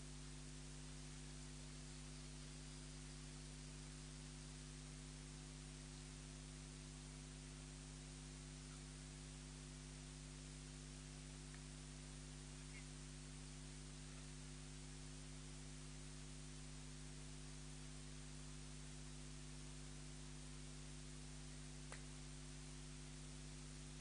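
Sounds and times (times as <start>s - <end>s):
faint electrical hum and hiss: 0.0s - 24.0s.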